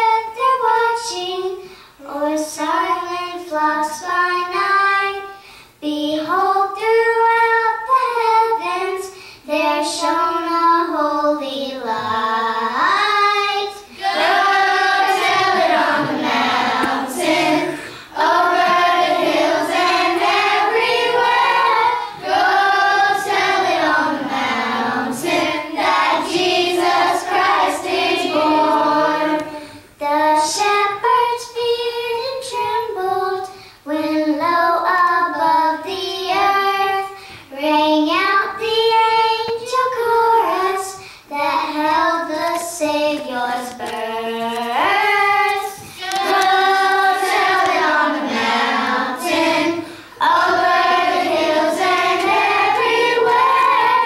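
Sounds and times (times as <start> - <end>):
children singing a slow song: 0.0 - 54.0.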